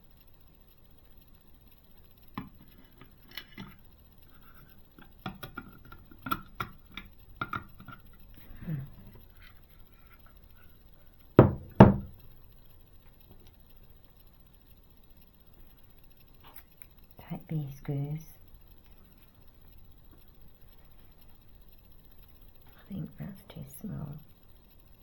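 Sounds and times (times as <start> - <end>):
small parts clicking and tapping: 0.0 - 25.0.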